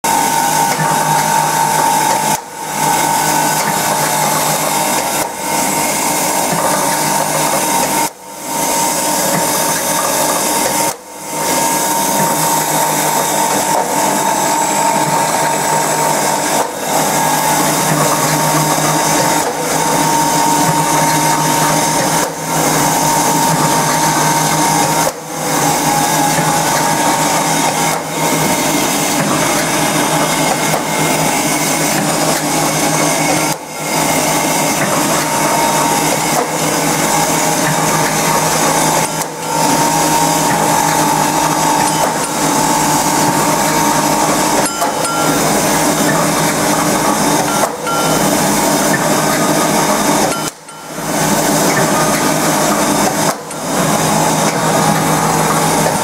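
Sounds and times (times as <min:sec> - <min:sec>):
steady high hum: 0:00.0 - 0:56.0.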